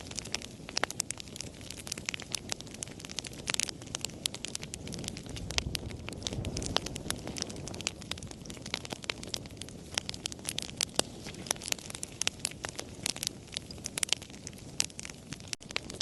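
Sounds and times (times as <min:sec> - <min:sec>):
campfire crackling: 0:00.0 - 0:16.0
low rumble of flames: 0:00.0 - 0:16.0.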